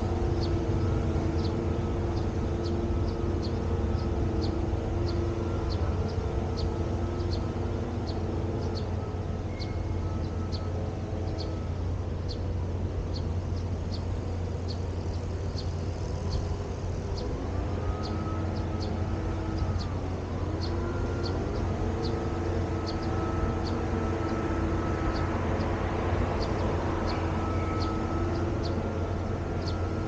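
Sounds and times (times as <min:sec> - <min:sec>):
motor tones: 0:00.0 - 0:30.0
steady low hum: 0:00.0 - 0:30.0.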